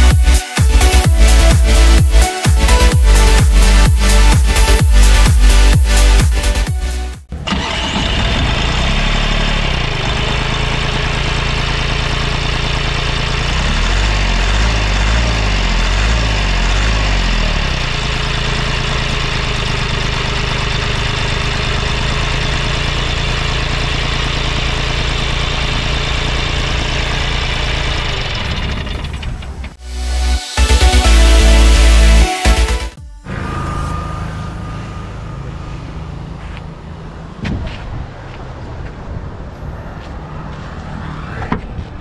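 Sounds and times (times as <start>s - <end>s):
diesel engine idling: 0.0s - 40.5s.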